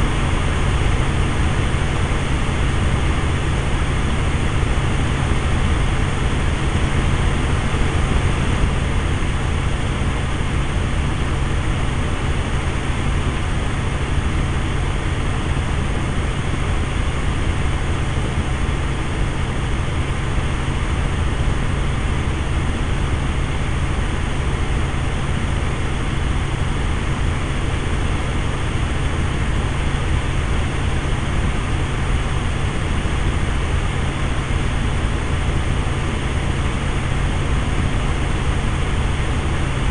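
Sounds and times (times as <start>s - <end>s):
small aircraft engine drone: 0.0s - 39.9s.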